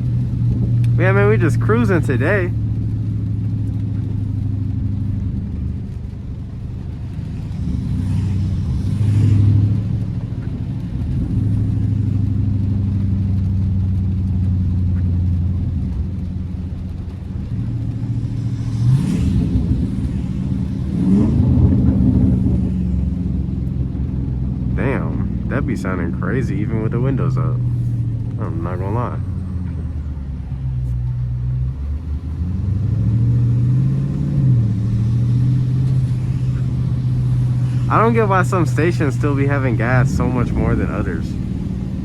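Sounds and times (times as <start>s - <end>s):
car engine heard from cabin: 0.0s - 42.0s.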